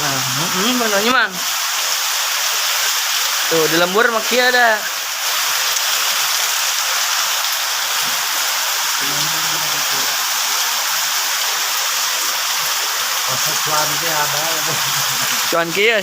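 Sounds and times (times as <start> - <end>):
rain falling steadily: 0.0 - 16.0.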